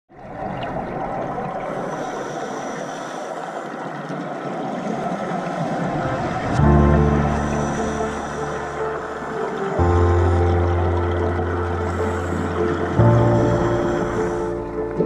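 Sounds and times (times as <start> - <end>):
underwater rushing noise: 0.1 - 15.0.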